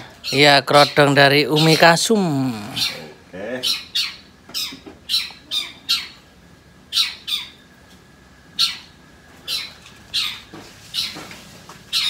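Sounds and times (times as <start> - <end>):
shrike calling: 0.0 - 7.8, 8.5 - 11.3.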